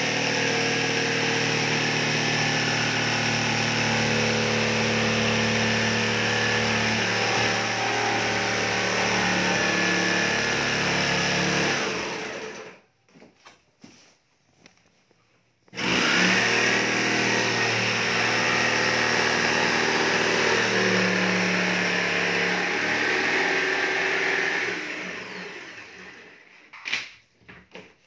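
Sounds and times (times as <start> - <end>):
oscillating multi-tool cutting plywood: 0.0 - 12.8, 15.7 - 26.4.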